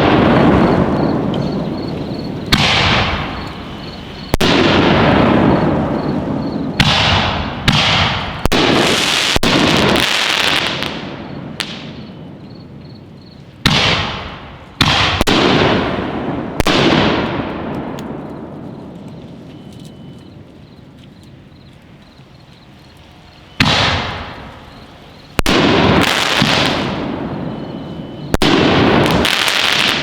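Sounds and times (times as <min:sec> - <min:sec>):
firework shells booming: 0:00.0 - 0:12.4, 0:13.6 - 0:18.9, 0:23.5 - 0:30.0
rolling echo: 0:00.0 - 0:30.0.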